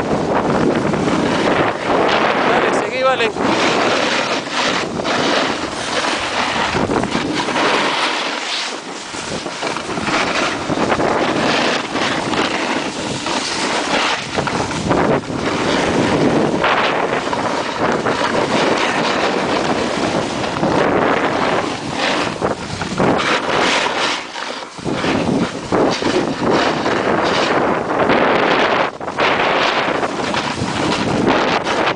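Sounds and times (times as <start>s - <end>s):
wind rushing over microphone: 0.0s - 31.9s.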